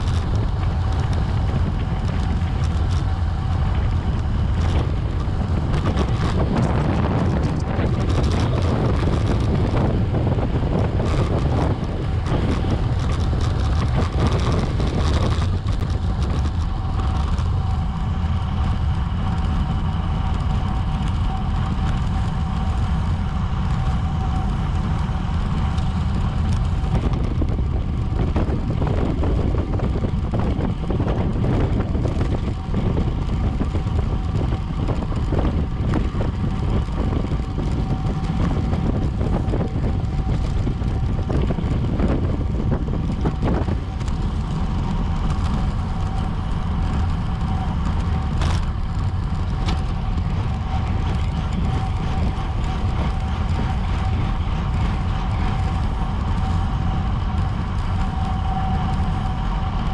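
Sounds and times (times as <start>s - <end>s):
thin steady whine: 0.0s - 59.9s
wind buffeting microphone: 0.0s - 59.9s.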